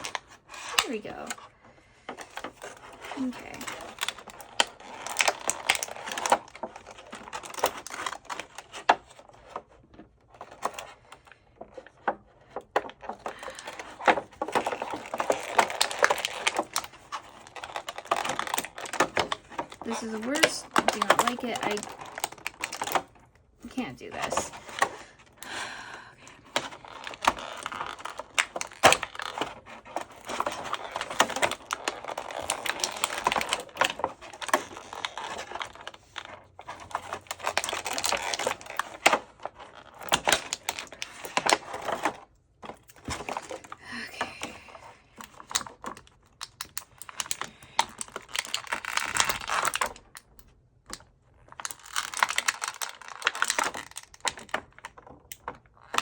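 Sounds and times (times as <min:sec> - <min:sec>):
packaging crinkling and crackling: 0:00.0 - 0:56.0.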